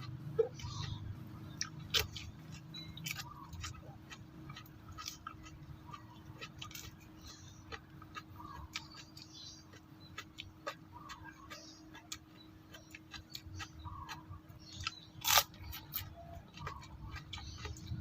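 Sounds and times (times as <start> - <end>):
crisp chewing crunches: 0.0 - 18.0.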